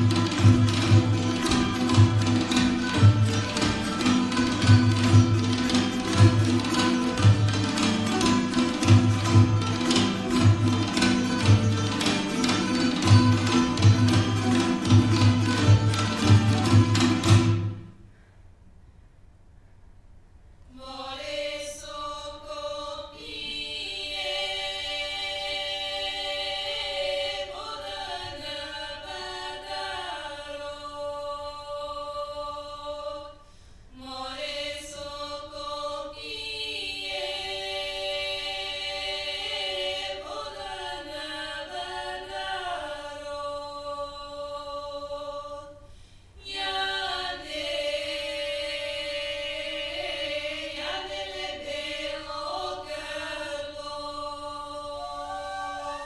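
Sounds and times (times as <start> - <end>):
choir singing: 0.0 - 17.9, 20.8 - 45.8, 46.4 - 56.0.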